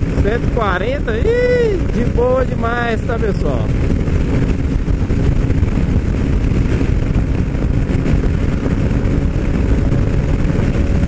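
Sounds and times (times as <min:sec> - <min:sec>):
motorcycle engine cruising: 0:00.0 - 0:11.0
wind rush on microphone: 0:00.0 - 0:11.0.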